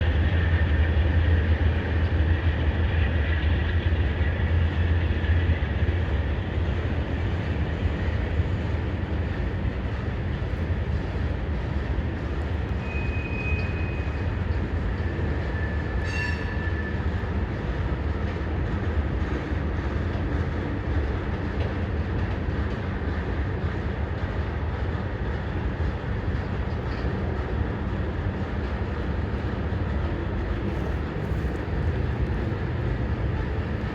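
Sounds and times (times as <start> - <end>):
freight train rumbling by: 0.0 - 33.9.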